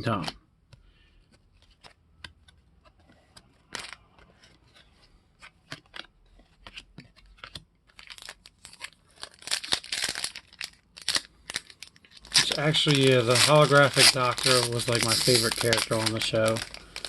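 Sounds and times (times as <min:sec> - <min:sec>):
crinkling rustle: 0:02.8 - 0:17.0.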